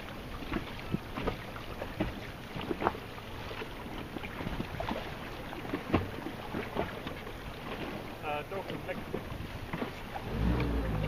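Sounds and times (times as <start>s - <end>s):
sea water lapping and splashing: 0.0s - 11.0s.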